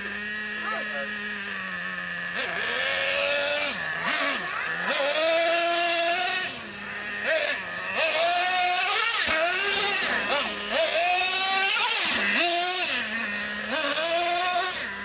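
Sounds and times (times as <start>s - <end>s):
nitro engine revving: 0.0s - 15.0s.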